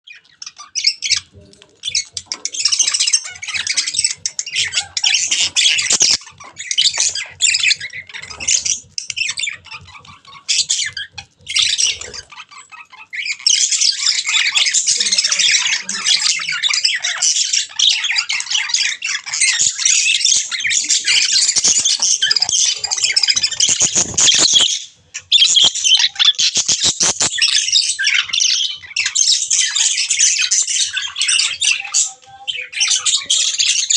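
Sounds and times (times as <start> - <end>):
birds chirping and squawking: 0.0 - 33.9.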